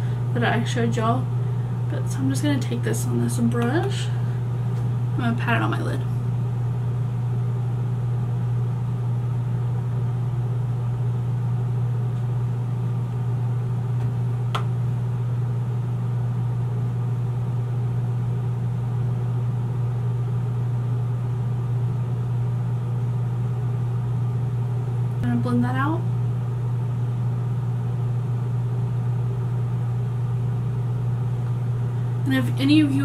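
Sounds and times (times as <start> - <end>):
low droning hum: 0.0 - 33.0.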